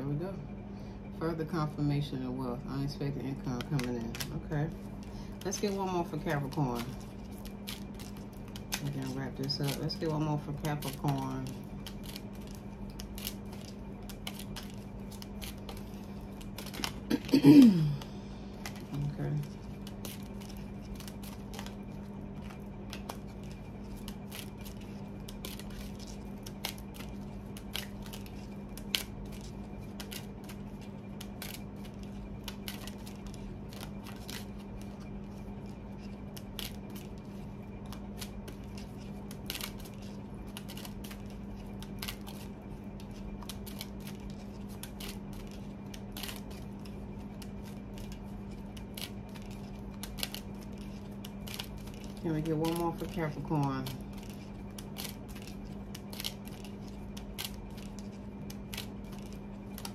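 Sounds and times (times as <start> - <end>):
steady low hum: 0.0 - 59.9
cards being shuffled: 3.3 - 59.9.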